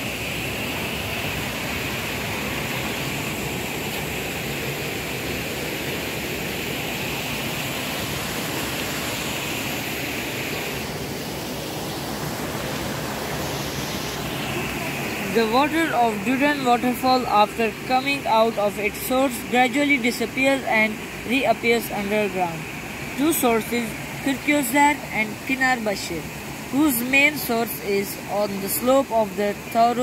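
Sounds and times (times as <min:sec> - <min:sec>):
river water rushing over rapids: 0:00.0 - 0:30.0.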